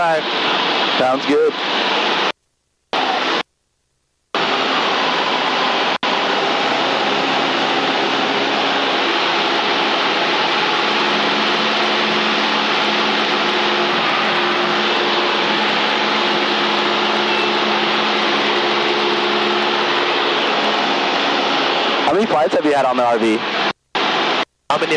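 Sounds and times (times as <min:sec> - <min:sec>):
loud static hiss: 0:00.0 - 0:24.9
aircraft engine drone: 0:04.4 - 0:24.9.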